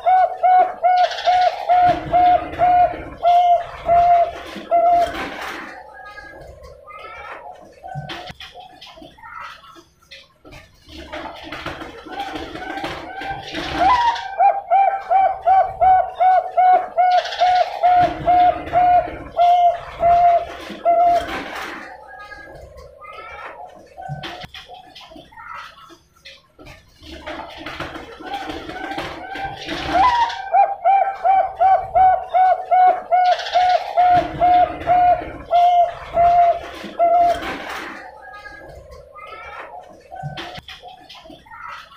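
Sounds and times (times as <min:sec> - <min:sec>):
dove cooing: 0:00.0 - 0:08.3, 0:11.6 - 0:24.6, 0:27.9 - 0:40.6.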